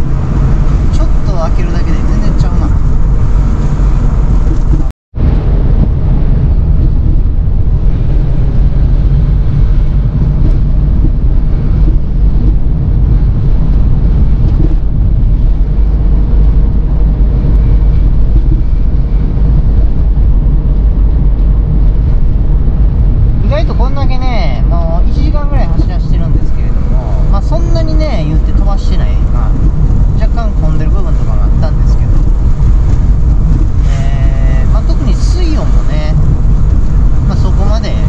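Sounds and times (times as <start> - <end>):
car engine rumble inside cabin: 0.0 - 38.0.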